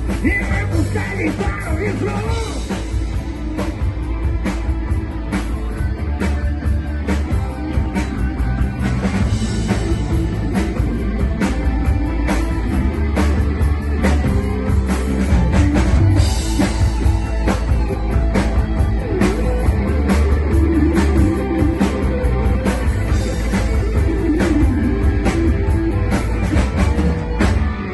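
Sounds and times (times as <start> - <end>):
drum kit beat: 0.0 - 27.9
electric guitar: 0.0 - 27.9.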